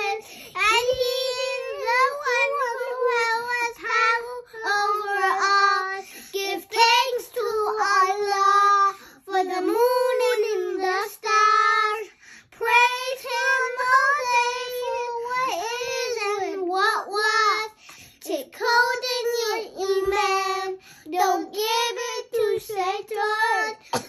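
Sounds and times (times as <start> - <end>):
girls singing unaccompanied: 0.0 - 24.0.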